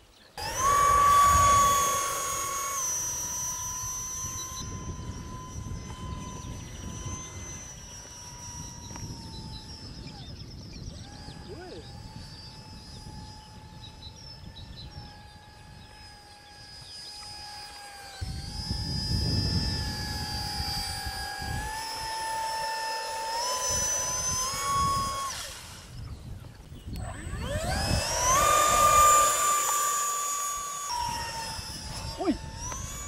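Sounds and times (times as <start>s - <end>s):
electric ducted fan whining: 0.4s - 33.0s.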